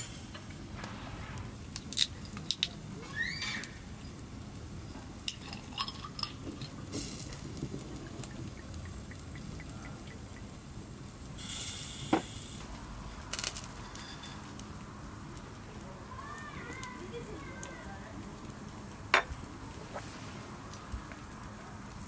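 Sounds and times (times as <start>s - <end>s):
meat sizzling on a grill: 0.0s - 22.0s.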